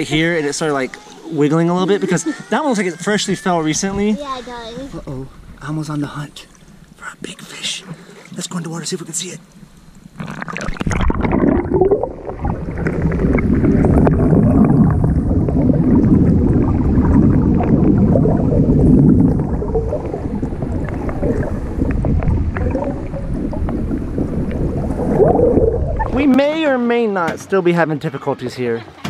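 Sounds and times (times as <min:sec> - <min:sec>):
muffled underwater rushing water: 0:00.0 - 0:26.6.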